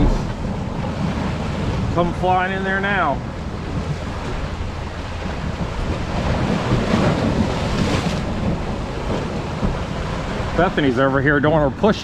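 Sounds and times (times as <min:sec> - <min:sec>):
ocean waves against rocks: 0:00.0 - 0:12.0
wind on microphone: 0:00.0 - 0:12.0.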